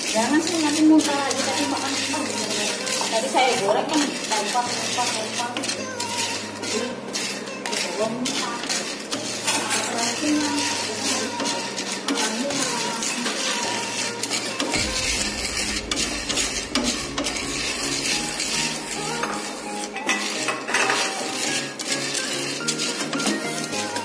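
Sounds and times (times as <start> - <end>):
coffee beans rattling in pan: 0.0 - 24.0.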